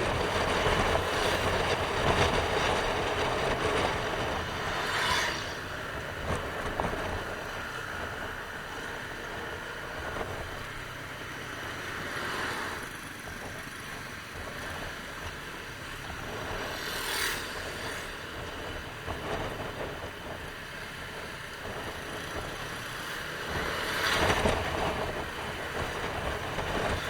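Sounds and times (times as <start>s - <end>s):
motorcycle wind and road noise: 0.0s - 27.0s.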